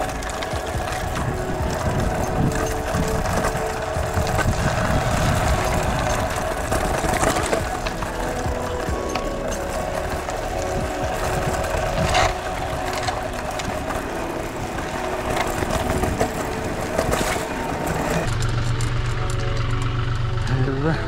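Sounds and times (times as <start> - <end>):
bike clicks and rattles: 0.0 - 21.0
bike tyres crunching on gravel: 0.0 - 21.0.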